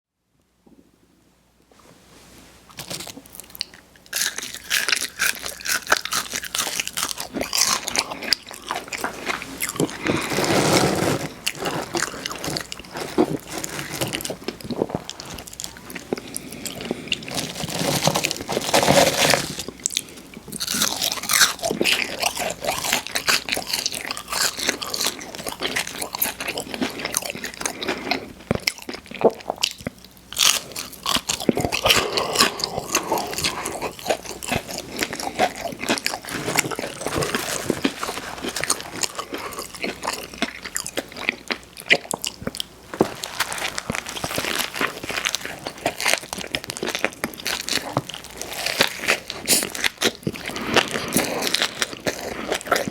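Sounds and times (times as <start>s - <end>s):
crunchy chewing: 2.7s - 52.9s.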